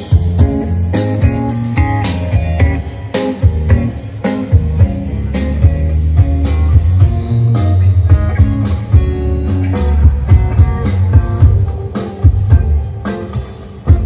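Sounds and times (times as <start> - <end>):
booming bass line: 0.0 - 14.0
guitar: 0.0 - 14.0
steady drum beat: 0.0 - 14.0.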